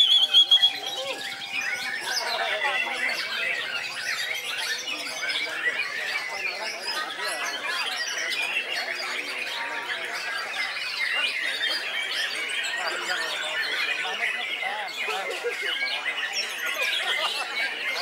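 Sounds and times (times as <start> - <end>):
songbirds singing: 0.0 - 18.0.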